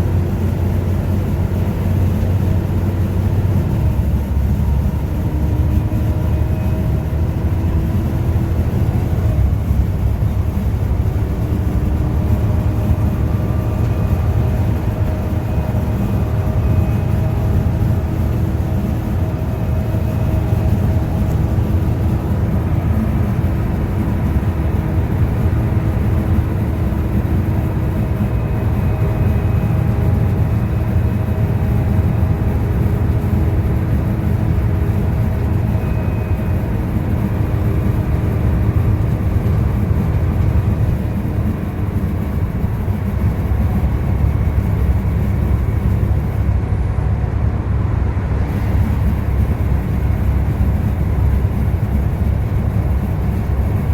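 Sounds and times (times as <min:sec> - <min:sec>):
bus diesel engine rumble: 0:00.0 - 0:53.9.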